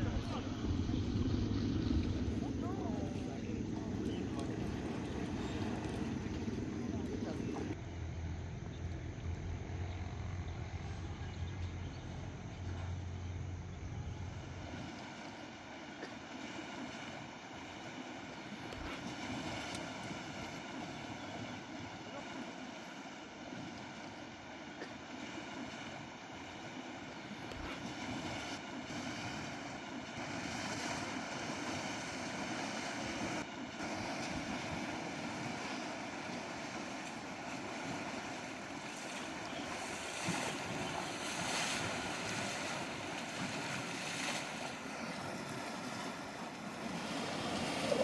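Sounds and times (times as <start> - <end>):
shallow river water rushing: 0.0 - 8.1, 9.6 - 48.0.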